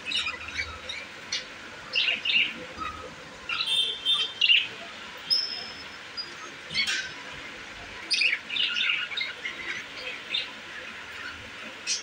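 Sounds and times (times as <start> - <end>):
budgerigars chirping: 0.0 - 7.1, 8.0 - 12.0.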